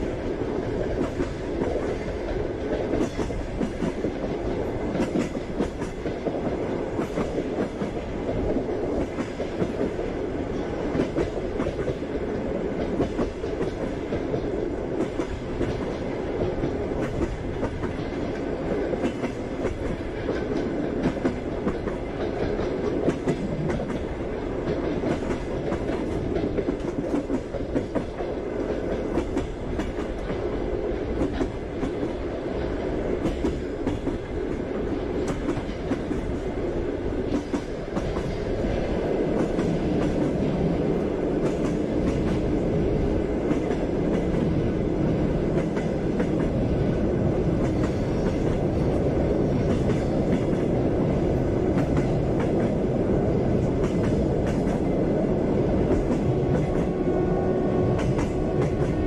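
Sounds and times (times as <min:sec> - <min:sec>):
train carriage rumble: 0:00.0 - 0:59.0.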